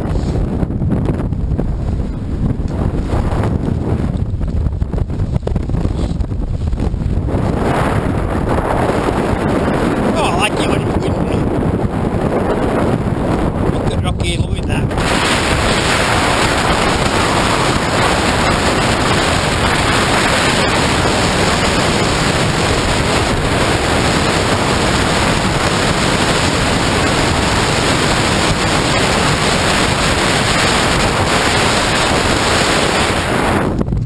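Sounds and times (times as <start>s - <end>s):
strong wind on microphone: 0.0s - 34.0s.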